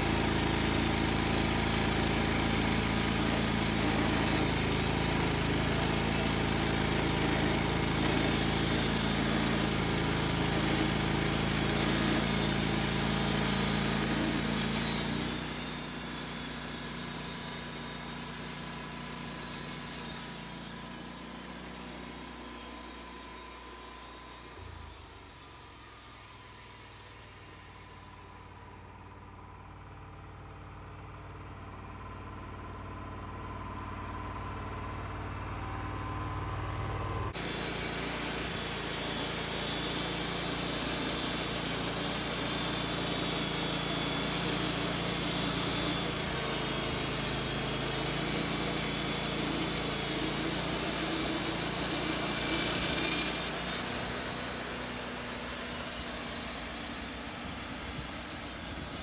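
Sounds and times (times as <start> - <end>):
saw cutting through log: 0.0 - 29.0, 37.2 - 59.0
sawmill engine hum: 0.0 - 59.0.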